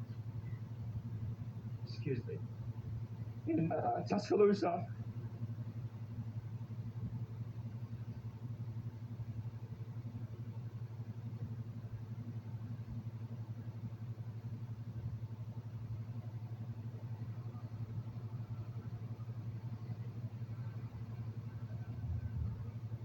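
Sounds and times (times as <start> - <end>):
low engine-like rumble: 0.0 - 23.0.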